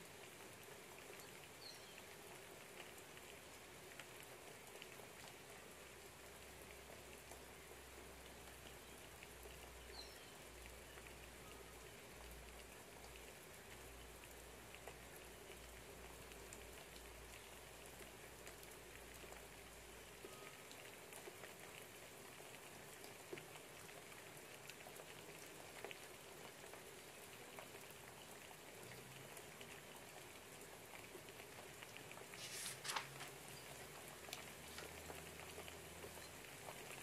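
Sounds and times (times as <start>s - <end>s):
light rain patter: 0.0s - 37.0s
water drips: 0.1s - 37.0s.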